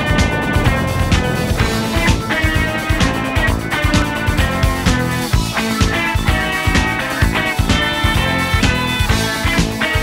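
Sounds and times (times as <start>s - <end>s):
steady drum beat: 0.0s - 9.0s
bass: 0.0s - 10.0s
electric guitar: 0.0s - 10.0s.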